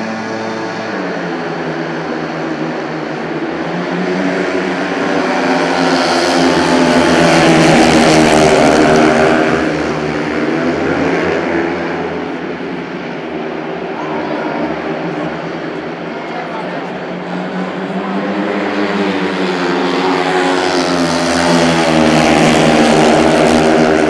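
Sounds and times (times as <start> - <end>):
motorcycles racing at full throttle: 0.0 - 24.0.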